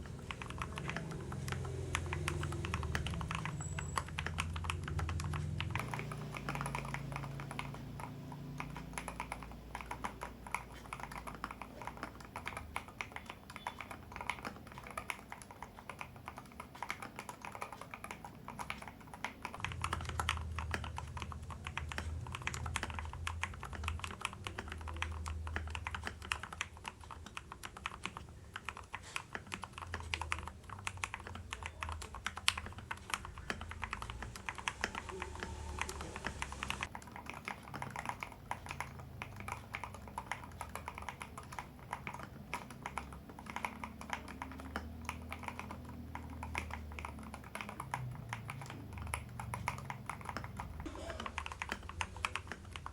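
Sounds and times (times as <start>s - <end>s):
fast typing on mechanical keyboard: 0.0s - 52.9s.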